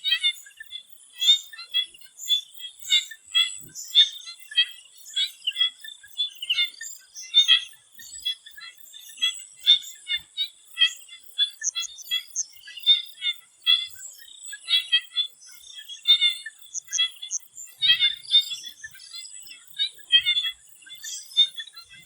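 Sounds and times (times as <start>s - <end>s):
frogs calling in chorus: 0.1s - 22.0s.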